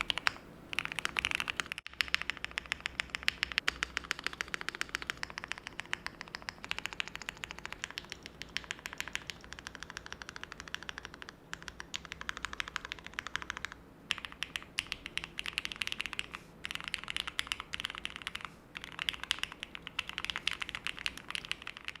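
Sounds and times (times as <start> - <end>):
mechanical keyboard typing: 0.0 - 22.0.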